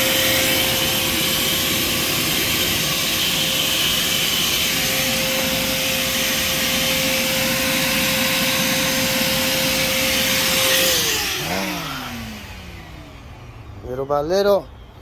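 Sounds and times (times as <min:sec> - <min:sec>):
power tool whining: 0:00.0 - 0:14.3.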